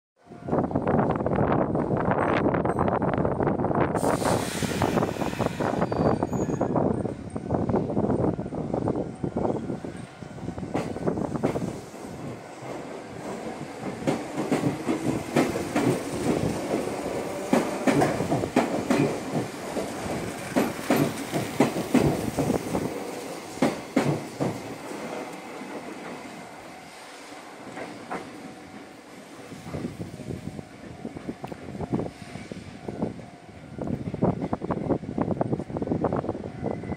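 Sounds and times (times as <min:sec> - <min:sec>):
train rumbling past: 0:00.2 - 0:36.9.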